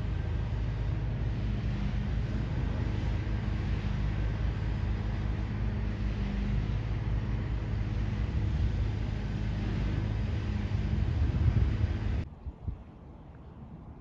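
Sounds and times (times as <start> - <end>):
jet airliner flying overhead: 0.0 - 14.0.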